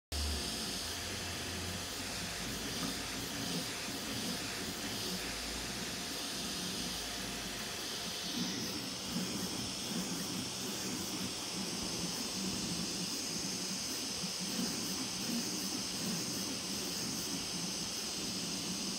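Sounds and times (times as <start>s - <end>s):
cooling fans hissing: 0.1s - 18.9s
stepper motors buzzing: 0.2s - 18.9s.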